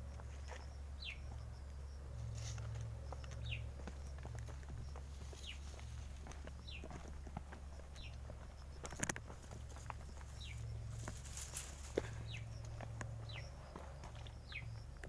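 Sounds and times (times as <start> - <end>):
footsteps on dirt trail: 0.0 - 15.0
steady low hum: 0.0 - 15.0.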